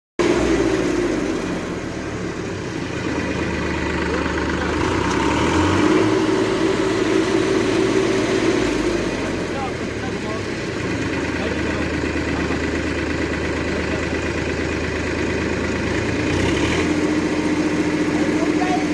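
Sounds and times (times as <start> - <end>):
tractor diesel engine running: 0.2 - 18.9.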